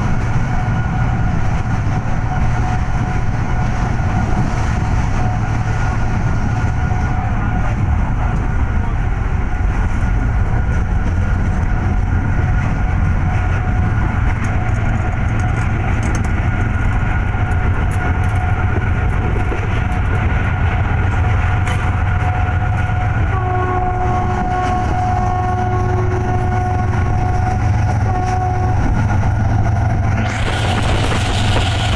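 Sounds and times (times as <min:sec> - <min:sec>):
train running noise with rumble: 0:00.0 - 0:31.9.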